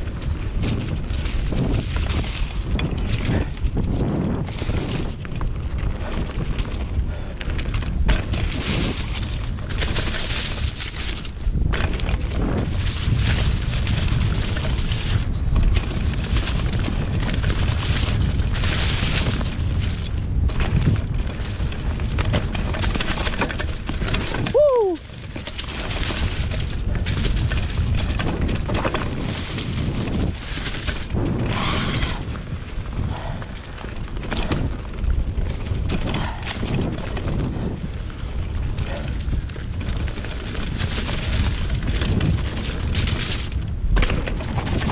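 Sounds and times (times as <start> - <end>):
bike knocks and rattles: 0.0 - 44.9
bike tyres on dirt: 0.0 - 44.9
wind on microphone: 0.0 - 44.9.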